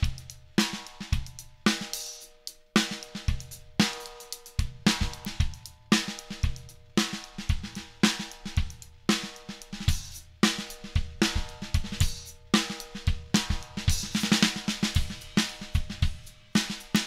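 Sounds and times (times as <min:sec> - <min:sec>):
drum kit groove: 0:00.0 - 0:17.0.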